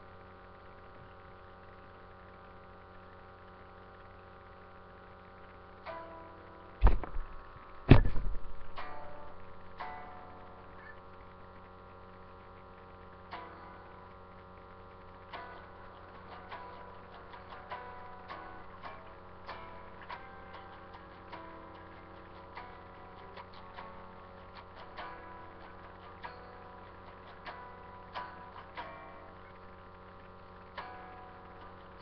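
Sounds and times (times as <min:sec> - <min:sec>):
steady electrical hum: 0:00.0 - 0:32.0
electric guitar notes: 0:03.8 - 0:32.0.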